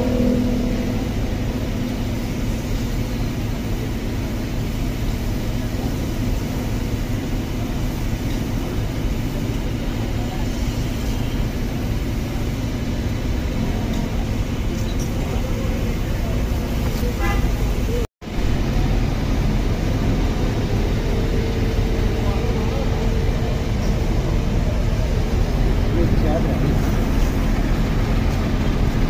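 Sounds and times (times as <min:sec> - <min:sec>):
low rumble of vehicles: 0:00.0 - 0:29.0.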